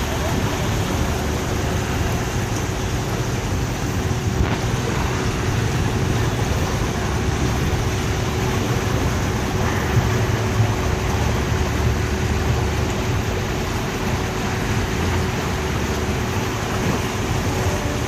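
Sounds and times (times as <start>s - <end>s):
boat engine droning: 0.0s - 18.0s
steady hiss: 0.0s - 18.0s.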